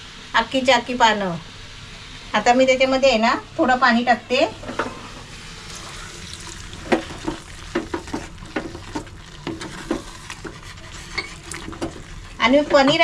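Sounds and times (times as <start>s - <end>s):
gravy sizzling: 0.3s - 13.0s.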